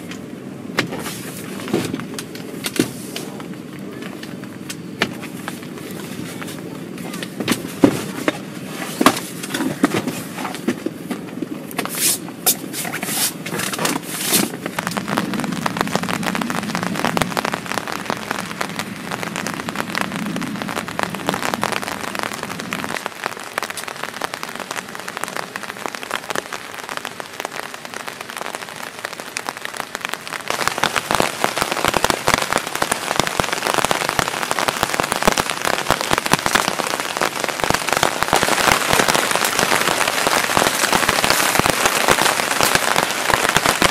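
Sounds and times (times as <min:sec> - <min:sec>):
heavy rain on a tarp: 0:00.0 - 0:43.9.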